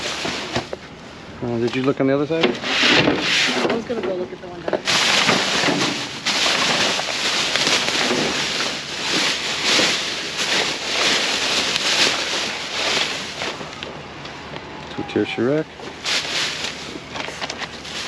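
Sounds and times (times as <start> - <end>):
plastic bags and bubble wrap rustling: 0.0 - 0.8, 1.4 - 14.0, 14.9 - 18.0.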